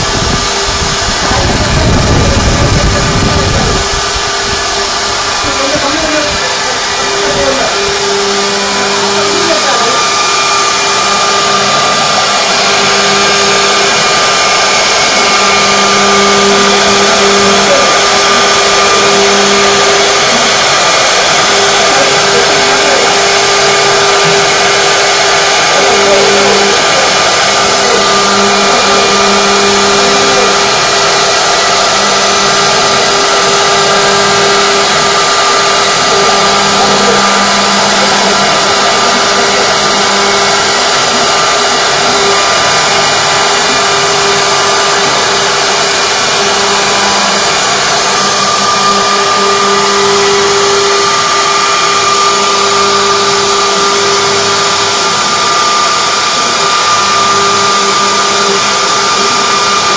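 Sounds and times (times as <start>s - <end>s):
hiss of wood cutting: 0.0s - 59.9s
router spindle whine: 0.0s - 59.9s.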